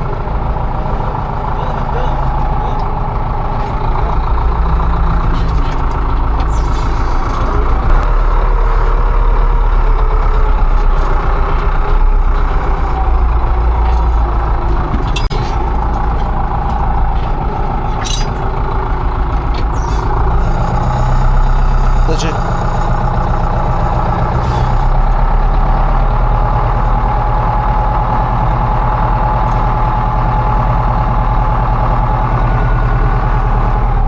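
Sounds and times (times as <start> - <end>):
tilling machine engine running: 0.0 - 34.0.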